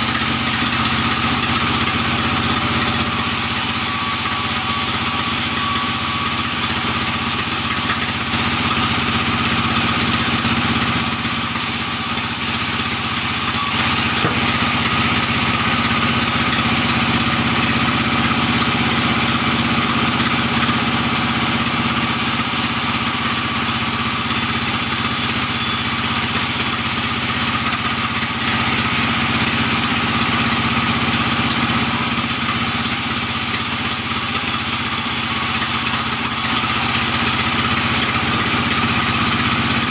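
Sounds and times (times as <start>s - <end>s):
sawmill saw ripping plank: 0.0s - 39.9s.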